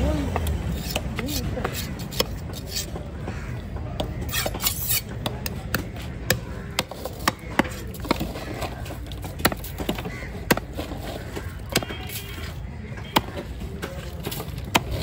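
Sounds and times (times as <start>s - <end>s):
market noise: 0.0s - 15.0s.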